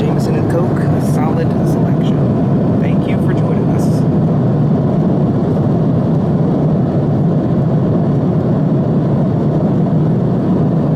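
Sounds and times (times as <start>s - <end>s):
airliner cabin engine rumble: 0.0s - 10.9s.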